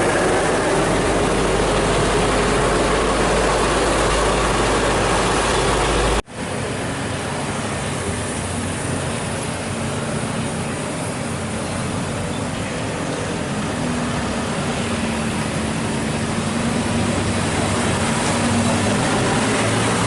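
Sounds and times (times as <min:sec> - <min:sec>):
heavy vehicle engine and road noise: 0:00.0 - 0:20.0
traffic noise: 0:00.0 - 0:20.0.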